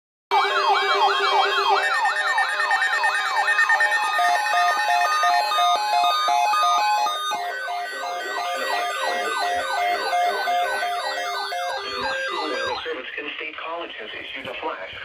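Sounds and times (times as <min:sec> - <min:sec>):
electronic siren-like alarm: 0:00.3 - 0:13.0
stepped beeping tones: 0:00.4 - 0:13.0.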